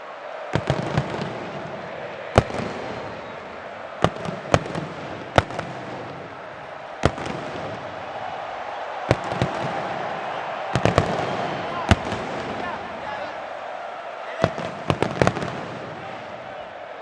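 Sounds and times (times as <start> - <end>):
crowd noise: 0.0 - 17.0
fireworks bangs: 0.3 - 17.0.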